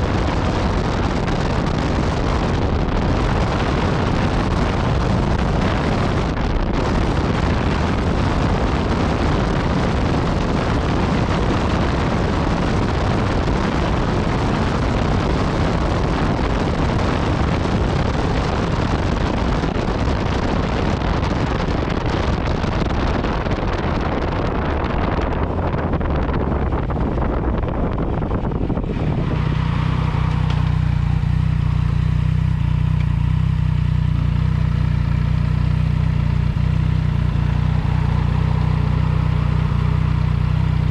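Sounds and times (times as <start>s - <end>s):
motorcycle engine running: 0.0s - 40.9s
wind rush on microphone: 0.0s - 40.9s.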